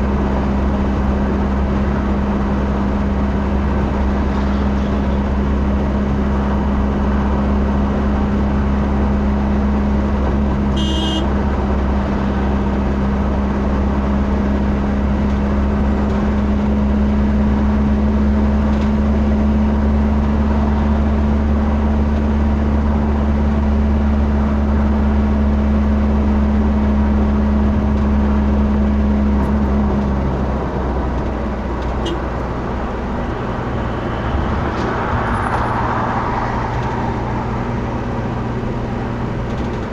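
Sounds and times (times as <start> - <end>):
engine and road drone: 0.0 - 39.9.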